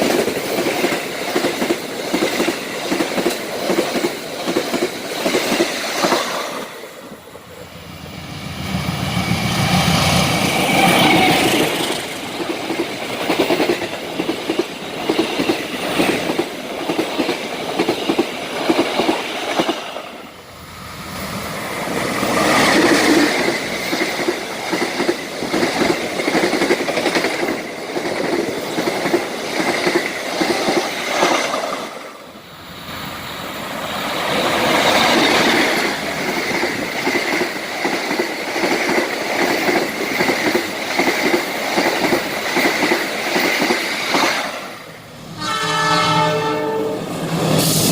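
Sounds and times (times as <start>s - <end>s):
train wheels clattering on rails: 0.0s - 6.8s, 8.6s - 20.2s, 21.2s - 32.2s, 33.7s - 44.8s.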